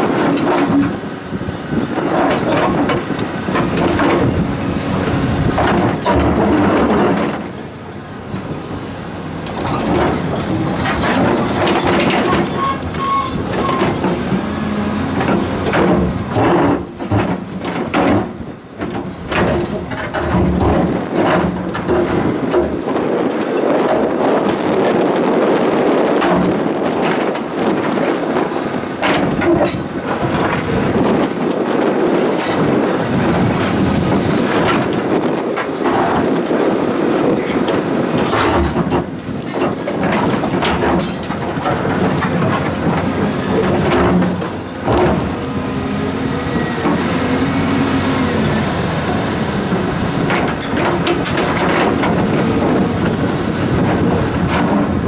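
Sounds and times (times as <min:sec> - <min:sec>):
hydraulic excavators running: 0:00.0 - 0:55.0.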